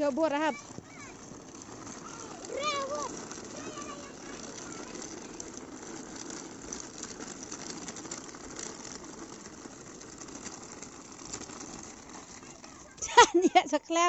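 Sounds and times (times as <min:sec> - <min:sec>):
plastic wheels rolling on asphalt: 0:00.0 - 0:14.0.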